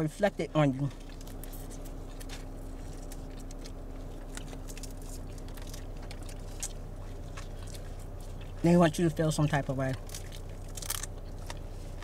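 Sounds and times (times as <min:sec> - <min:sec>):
low hum in car: 0:00.0 - 0:12.0
chewing clicks and smacks: 0:00.8 - 0:12.0.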